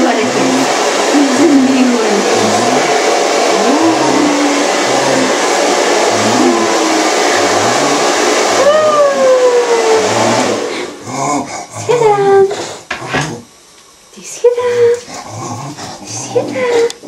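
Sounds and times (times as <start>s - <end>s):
hair dryer blowing: 0.0s - 13.4s, 15.9s - 17.0s.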